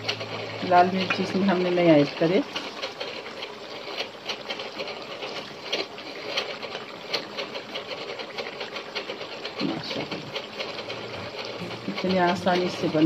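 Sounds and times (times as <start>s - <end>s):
wooden spatula scraping a pot: 0.0s - 13.0s.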